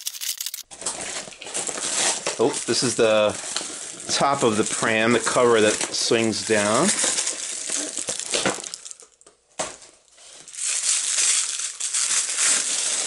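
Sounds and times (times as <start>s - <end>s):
paper crumpling and rustling: 0.0s - 9.0s, 10.4s - 13.0s.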